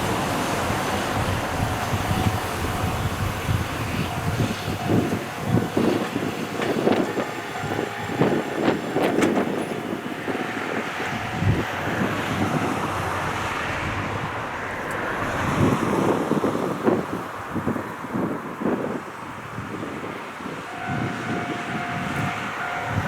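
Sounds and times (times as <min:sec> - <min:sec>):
electric train running: 0:00.0 - 0:23.0
wind buffeting microphone: 0:00.0 - 0:23.0.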